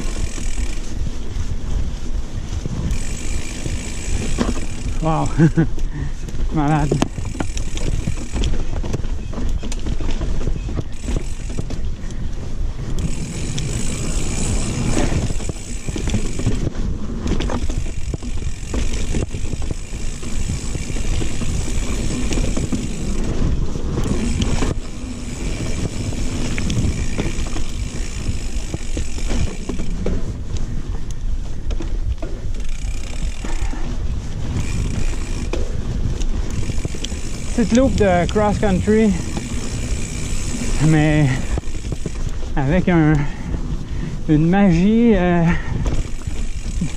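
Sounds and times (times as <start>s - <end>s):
bike rattling over trail: 0.0s - 46.9s
wind on microphone: 0.0s - 46.9s.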